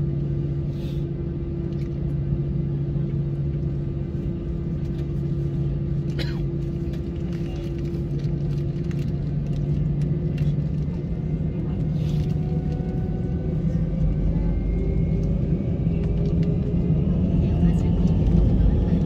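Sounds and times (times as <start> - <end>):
jet engines rumbling at taxi: 0.0 - 19.0.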